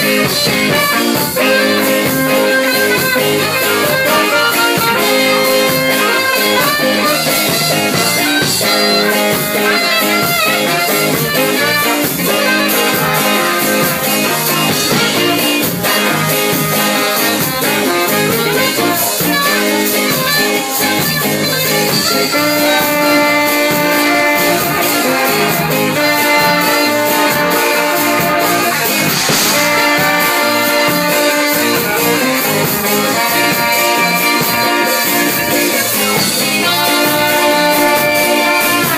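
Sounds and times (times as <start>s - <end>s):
live band with horn section: 0.0s - 38.9s.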